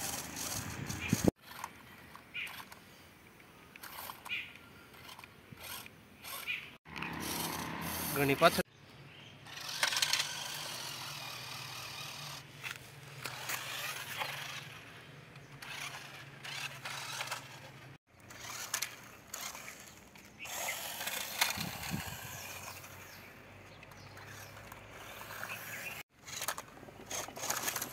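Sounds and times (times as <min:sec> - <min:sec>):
toy car electric motor whine: 0:00.0 - 0:01.7, 0:02.4 - 0:02.8, 0:03.8 - 0:08.6, 0:09.4 - 0:14.9, 0:15.5 - 0:23.3, 0:24.0 - 0:27.9.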